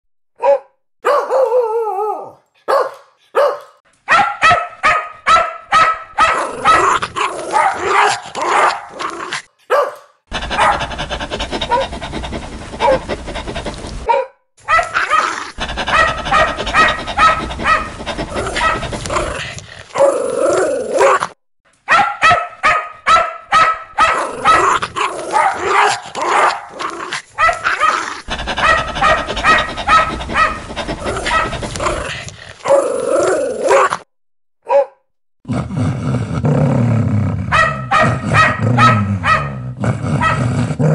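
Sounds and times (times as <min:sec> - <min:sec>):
dogs barking aggressively: 0:02.6 - 0:34.0, 0:37.5 - 0:40.6.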